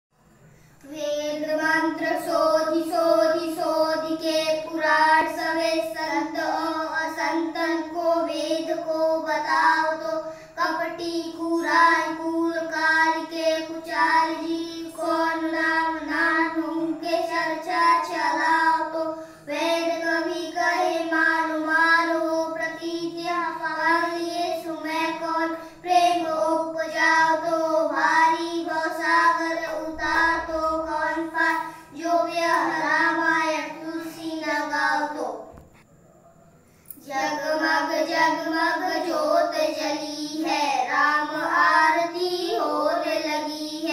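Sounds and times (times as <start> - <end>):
boys singing a devotional hymn: 0.8 - 35.8, 36.9 - 43.9.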